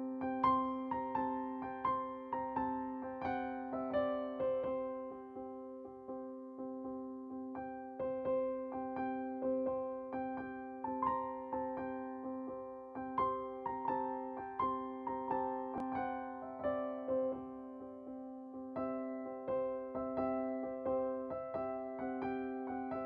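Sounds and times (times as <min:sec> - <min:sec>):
soft piano notes: 0:00.0 - 0:23.0.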